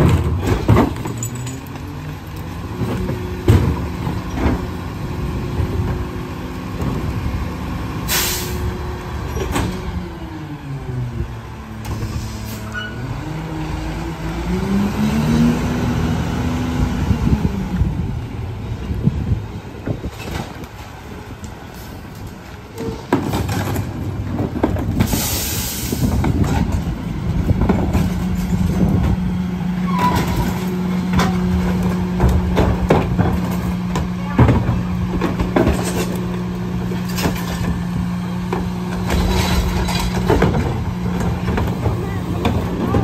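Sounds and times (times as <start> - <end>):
trash carts banging: 0.0 - 10.2, 18.0 - 43.0
garbage truck engine running: 0.0 - 43.0.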